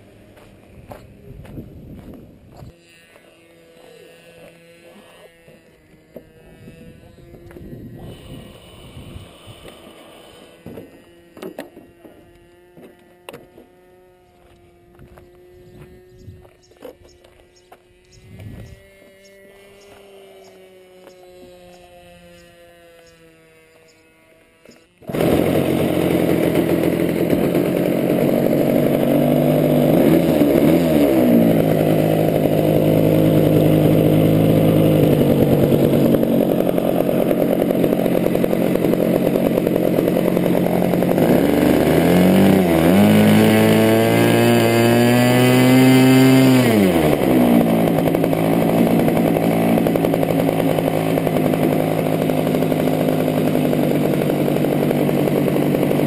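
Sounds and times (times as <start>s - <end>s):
model plane engine revving: 2.7s - 56.0s.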